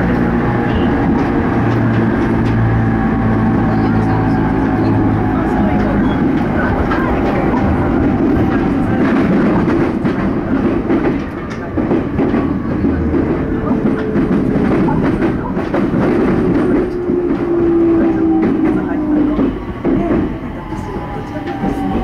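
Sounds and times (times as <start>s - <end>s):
train wheels clattering over rail joints: 0.1s - 22.0s.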